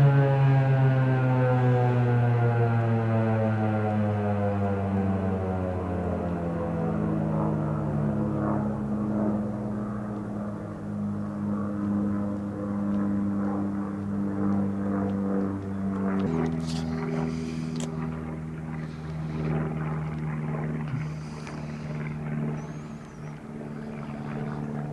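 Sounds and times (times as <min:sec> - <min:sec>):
engine-like hum: 0:00.0 - 0:24.9.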